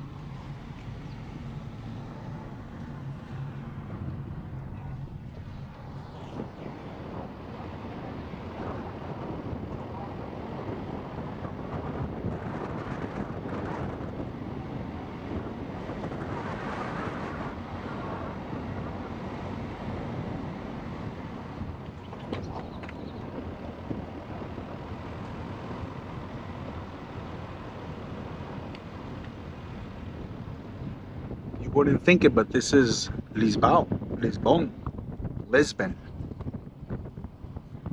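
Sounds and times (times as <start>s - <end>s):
car road and engine noise: 0.0s - 37.9s
wind noise on microphone: 0.0s - 37.9s.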